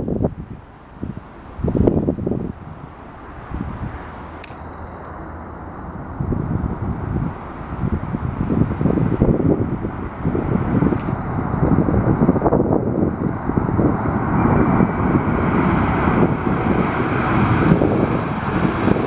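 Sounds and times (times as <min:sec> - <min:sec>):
jet engines rumbling: 0:00.0 - 0:19.0
wind buffeting microphone: 0:00.0 - 0:19.0.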